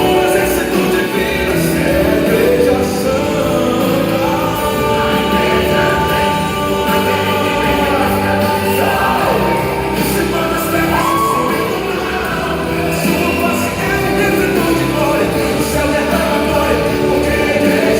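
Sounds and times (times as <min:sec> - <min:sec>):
full band backing: 0:00.0 - 0:17.9
gospel singers: 0:00.0 - 0:17.9.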